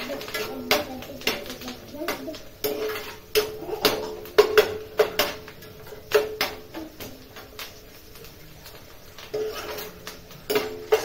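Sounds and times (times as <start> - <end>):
metal spoon clanging on frying pan: 0.0 - 11.0.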